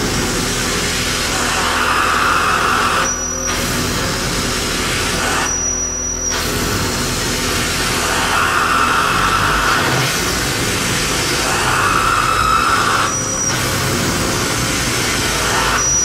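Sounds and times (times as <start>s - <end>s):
harsh electronic noise: 0.0s - 16.0s.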